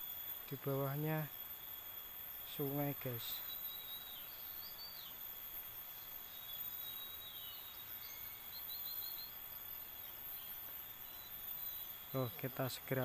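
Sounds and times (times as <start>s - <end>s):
faint bird chirps: 0.0s - 13.0s
high-pitched insect drone: 0.0s - 13.0s.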